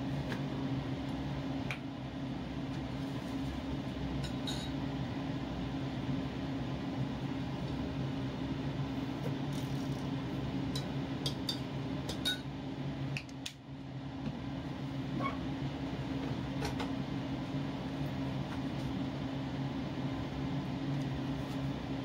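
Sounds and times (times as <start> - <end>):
appliance fan humming: 0.0 - 22.0.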